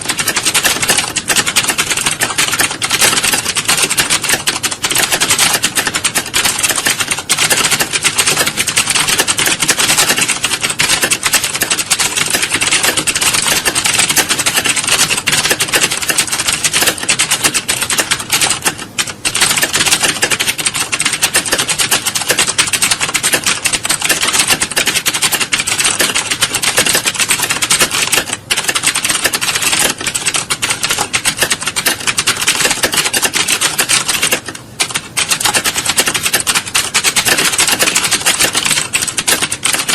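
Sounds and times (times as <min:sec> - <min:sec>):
keyboards typing fast: 0:00.0 - 0:39.9.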